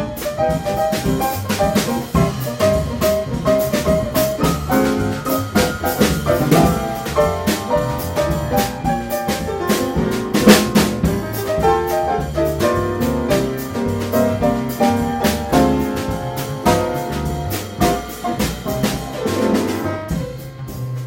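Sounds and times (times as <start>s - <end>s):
jazz piano trio music: 0.0s - 21.0s
loud drum hit: 0.0s - 21.0s.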